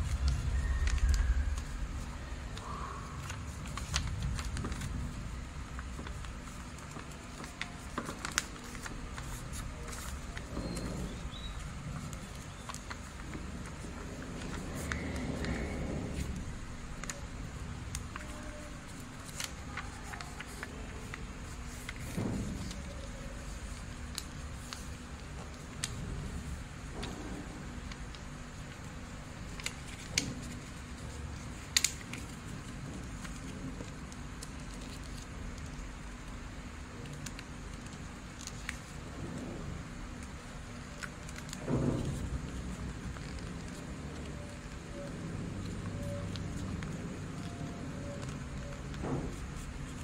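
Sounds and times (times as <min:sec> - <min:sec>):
paper crinkling as folded: 0:00.0 - 0:50.0
steady background hiss: 0:00.0 - 0:50.0
steady low hum: 0:00.0 - 0:50.0.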